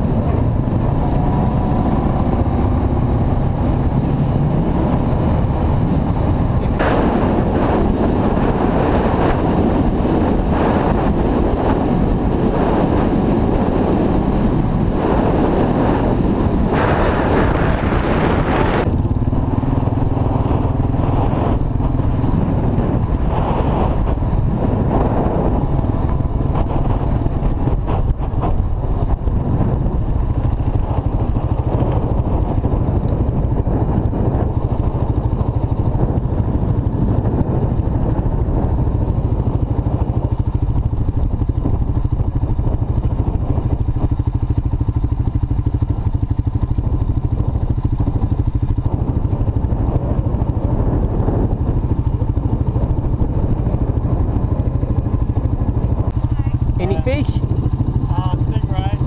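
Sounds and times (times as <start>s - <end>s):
quad bike engine running: 0.0s - 59.0s
wind buffeting microphone: 0.0s - 59.0s.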